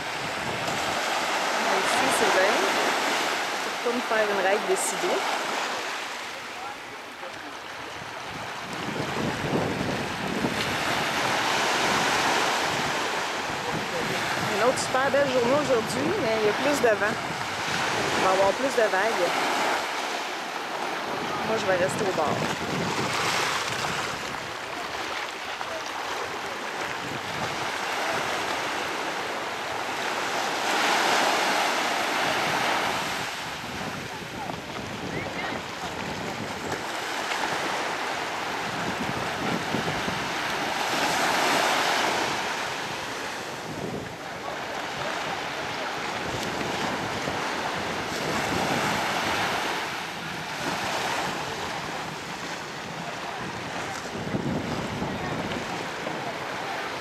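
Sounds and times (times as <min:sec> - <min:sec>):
wind buffeting microphone: 0:00.0 - 0:05.2, 0:07.7 - 0:20.0, 0:20.8 - 0:57.0
small waves breaking on beach: 0:00.0 - 0:57.0.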